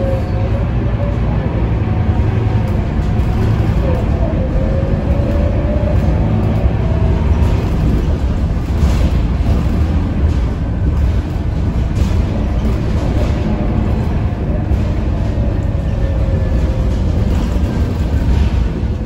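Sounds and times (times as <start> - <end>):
bus engine low rumble: 0.0 - 19.0.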